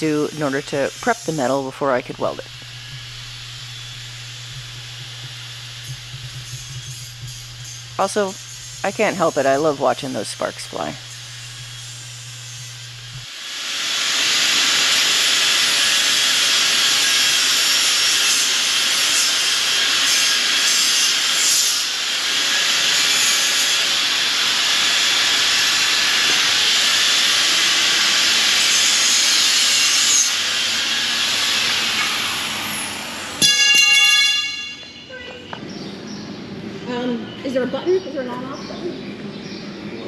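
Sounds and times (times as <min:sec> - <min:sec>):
angle grinder grinding metal: 0:00.0 - 0:35.1.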